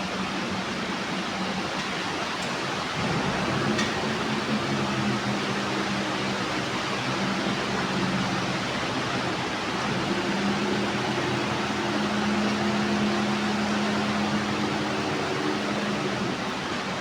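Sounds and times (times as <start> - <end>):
bag-cutting machine whirring: 2.5 - 17.0.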